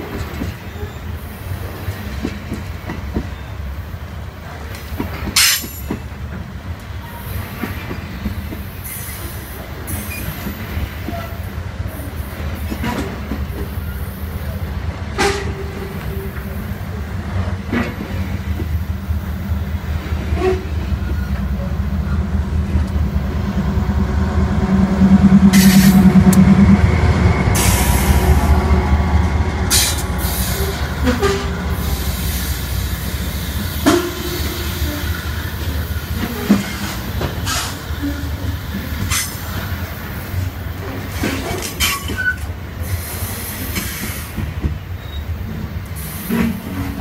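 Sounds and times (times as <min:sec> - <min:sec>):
train wagon clanks: 0:00.0 - 0:03.5, 0:04.4 - 0:18.9, 0:19.8 - 0:47.0
train wheels rumbling on rail: 0:00.0 - 0:47.0.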